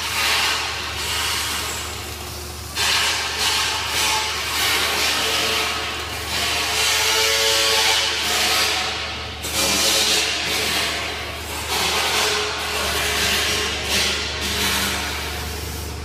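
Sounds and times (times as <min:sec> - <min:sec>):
steady low hum: 0:00.0 - 0:16.0
welding arc sizzling: 0:00.0 - 0:16.0.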